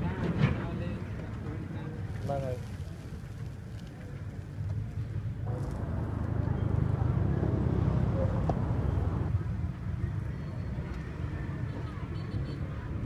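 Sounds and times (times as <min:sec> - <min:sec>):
faint voices: 0:00.0 - 0:13.0
traffic rumble: 0:00.0 - 0:13.0.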